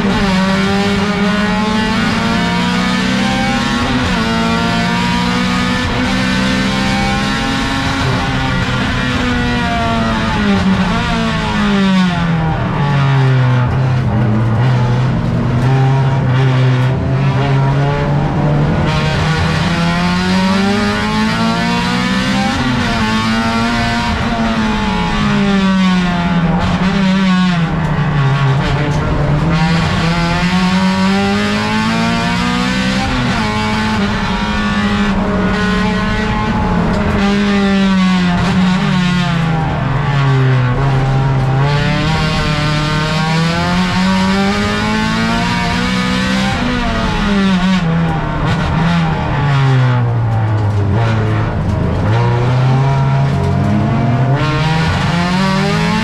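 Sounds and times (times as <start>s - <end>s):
racing car engine revving: 0.0s - 56.0s
road and wind noise: 0.0s - 56.0s.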